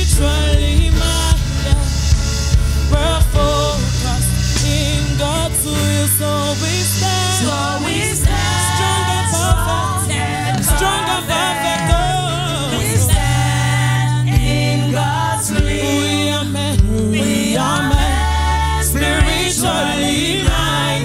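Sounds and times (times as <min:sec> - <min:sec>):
drum hits: 0:00.0 - 0:06.0, 0:06.8 - 0:21.0
group singing gospel song: 0:00.0 - 0:21.0
keyboard accompaniment: 0:00.0 - 0:21.0
steady bass: 0:00.0 - 0:21.0.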